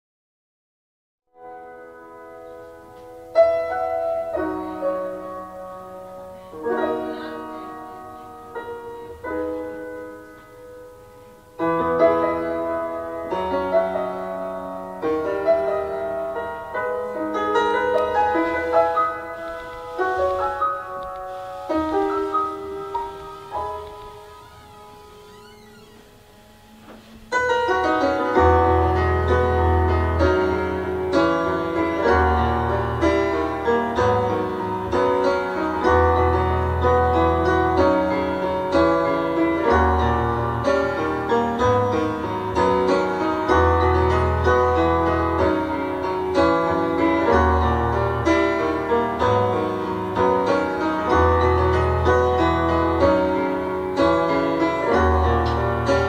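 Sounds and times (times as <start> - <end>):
piano chords over low bass: 1.5 - 56.0.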